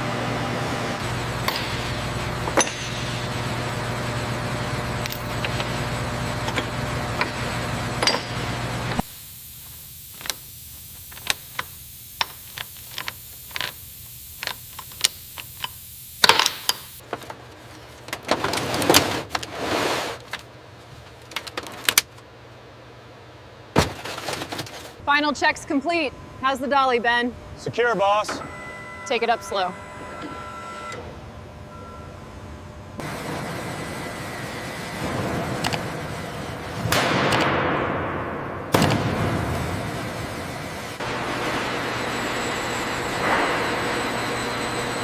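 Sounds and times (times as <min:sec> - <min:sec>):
machine hum: 0:00.0 - 0:18.5, 0:21.4 - 0:45.0.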